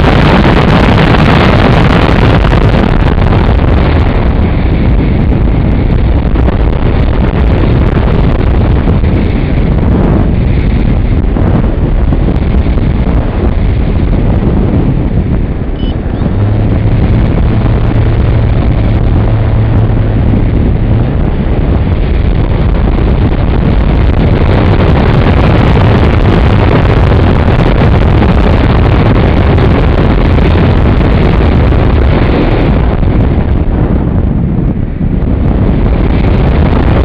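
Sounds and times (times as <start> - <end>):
motor and propeller hum: 0.0 - 37.0
wind rushing over microphone: 0.0 - 37.0.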